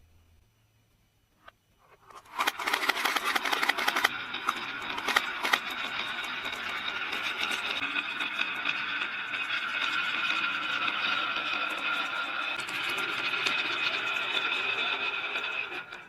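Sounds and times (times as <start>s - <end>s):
marbles rolling down a marble run: 2.1s - 16.0s.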